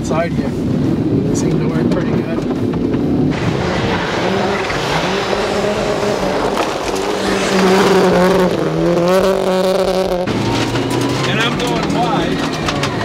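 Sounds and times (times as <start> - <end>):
rally car engine pulling hard: 0.3 - 13.0.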